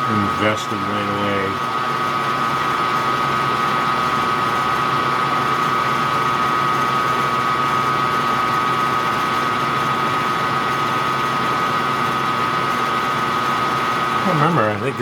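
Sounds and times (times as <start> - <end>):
metal lathe drilling: 0.0 - 15.0.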